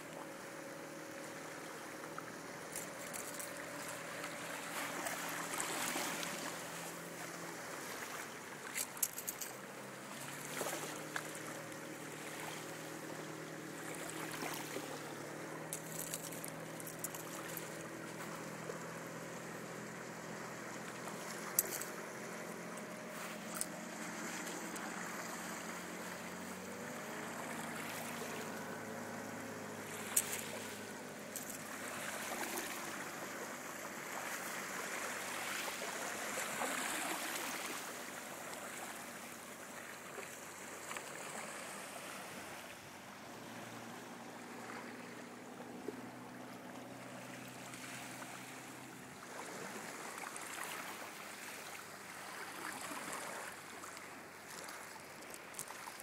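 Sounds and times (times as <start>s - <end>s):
waves lapping on shore: 0.0s - 56.0s.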